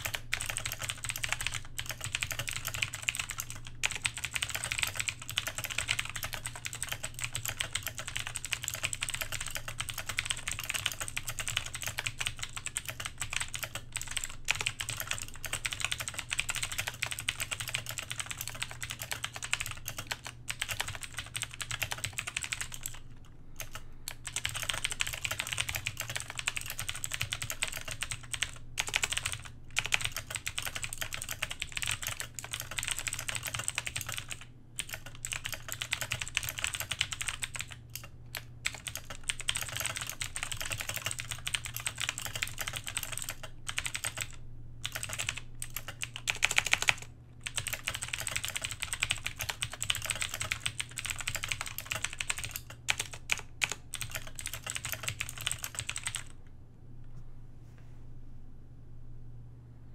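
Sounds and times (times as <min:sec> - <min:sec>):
mechanical keyboard typing clicks: 0:00.0 - 0:23.0, 0:23.6 - 0:56.4.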